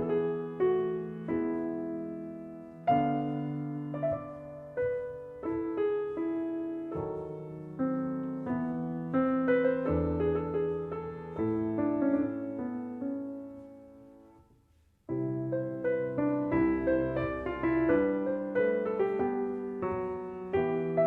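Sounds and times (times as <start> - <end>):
calm solo piano music: 0.0 - 21.0.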